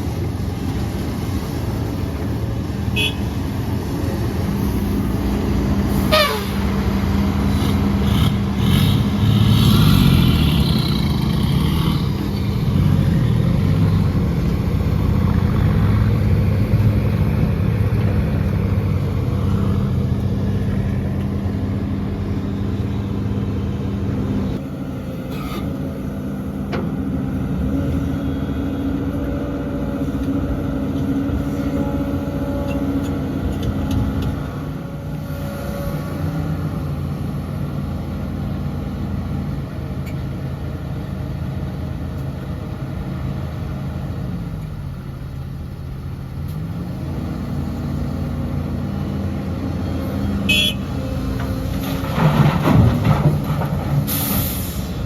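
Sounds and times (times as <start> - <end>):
heavy machinery engine drone: 0.0 - 55.0.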